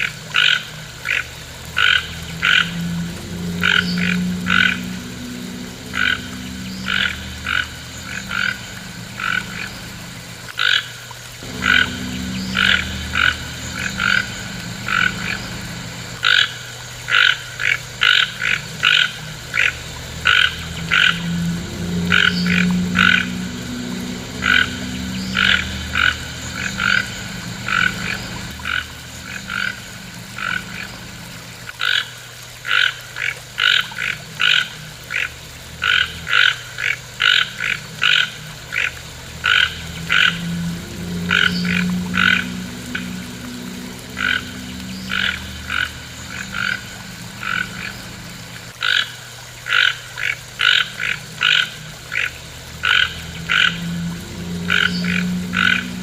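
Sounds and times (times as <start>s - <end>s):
low hum: 0.0s - 10.6s, 11.4s - 17.2s, 17.9s - 31.7s, 34.2s - 48.8s, 50.8s - 56.0s
frog croaking: 0.0s - 56.0s.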